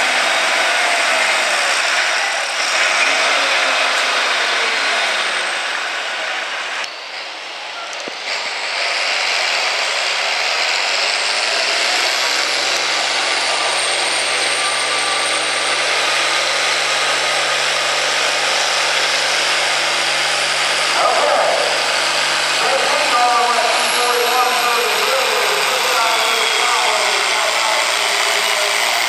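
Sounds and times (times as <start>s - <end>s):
diesel tractor engine under load: 0.0s - 29.0s.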